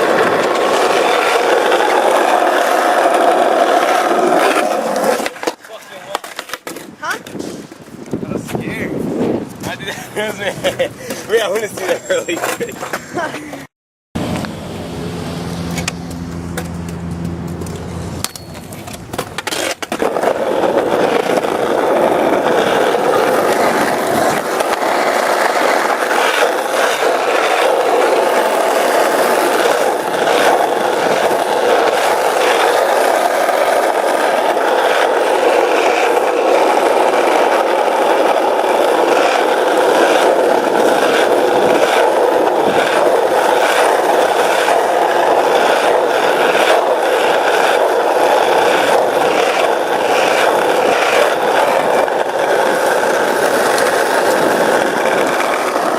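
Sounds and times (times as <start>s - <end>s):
small wheels rolling on pavement: 0.0s - 55.9s.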